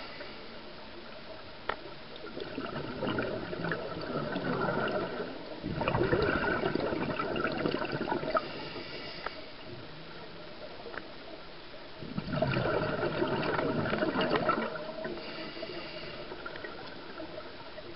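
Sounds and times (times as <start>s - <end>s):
underwater exhaust bubbles: 1.0s - 17.9s.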